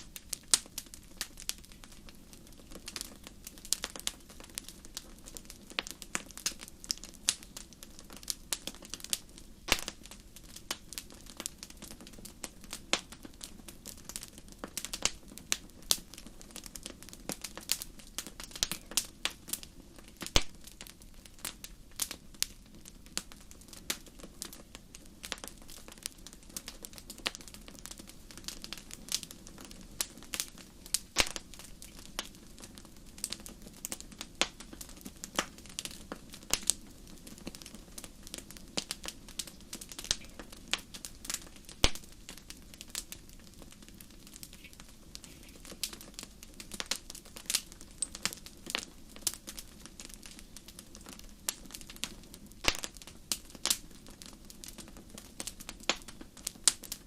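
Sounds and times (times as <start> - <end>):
fire crackles and pops: 0.0 - 57.0
low rumble of flames: 0.0 - 57.0.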